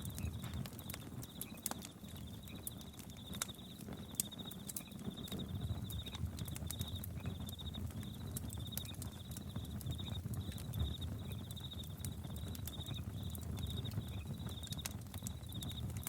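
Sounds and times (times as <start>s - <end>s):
crickets chirping: 0.0s - 12.1s, 12.7s - 14.7s
campfire crackling and popping: 0.0s - 16.0s.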